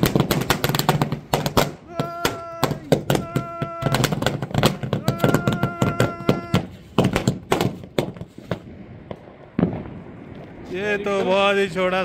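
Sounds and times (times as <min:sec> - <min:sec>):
firecrackers banging: 0:00.0 - 0:12.0.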